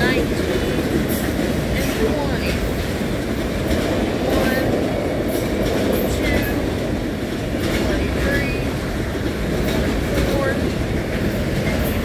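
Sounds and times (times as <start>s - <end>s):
train wheels rumbling on rail: 0.0s - 12.0s
wheels clicking over rail joints: 0.0s - 12.0s.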